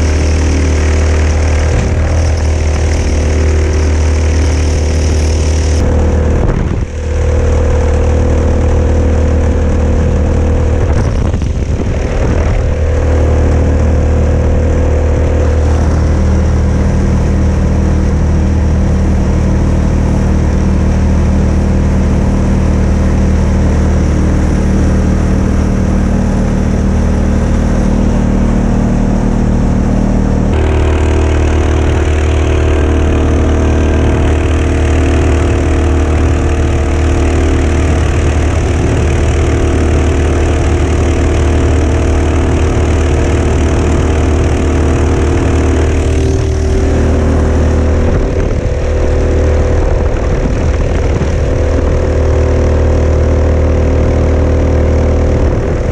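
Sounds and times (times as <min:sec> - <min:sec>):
small gas engine running: 0:00.0 - 0:55.9.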